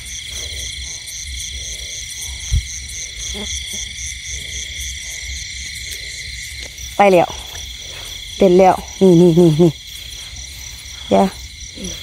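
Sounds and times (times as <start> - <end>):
frogs croaking: 0.0 - 12.0
high insect trill: 0.0 - 12.0.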